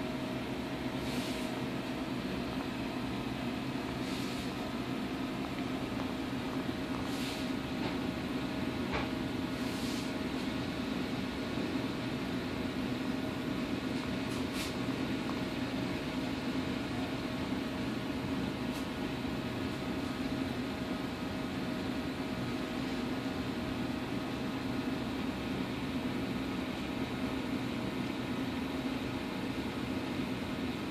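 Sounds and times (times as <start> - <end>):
mechanical hum of equipment: 0.0 - 30.9.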